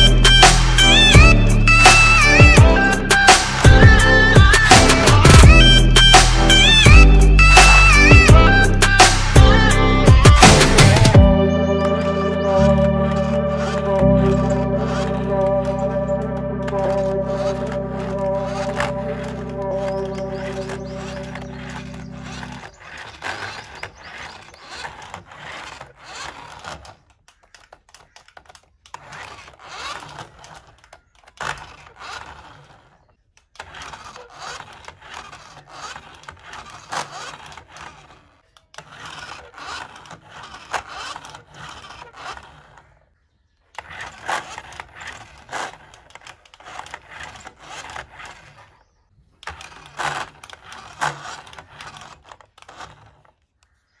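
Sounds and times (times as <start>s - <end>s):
toy car motor whirring: 0.0s - 54.0s.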